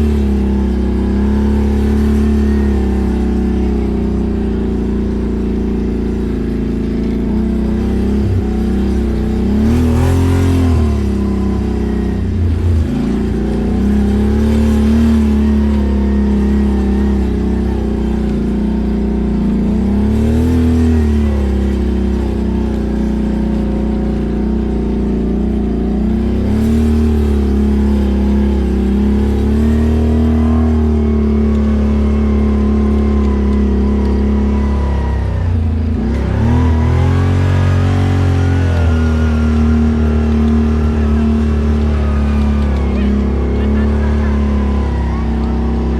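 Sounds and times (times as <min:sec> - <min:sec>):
atv engine revving: 0:00.0 - 0:45.9.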